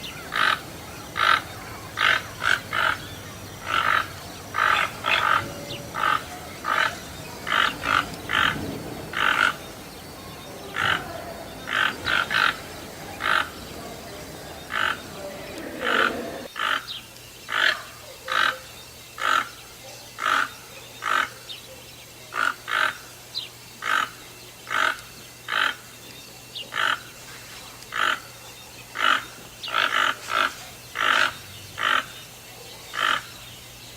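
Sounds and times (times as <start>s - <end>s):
toucans calling: 0.0s - 33.9s.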